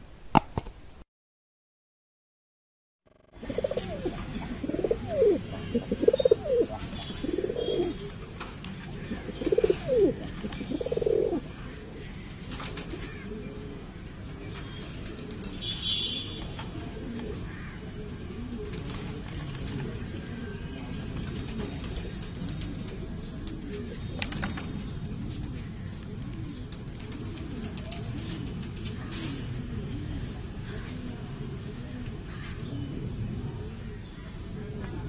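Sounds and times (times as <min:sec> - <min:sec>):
low steady background noise: 0:03.1 - 0:35.0
pigeons cooing: 0:03.2 - 0:14.3, 0:16.7 - 0:35.0.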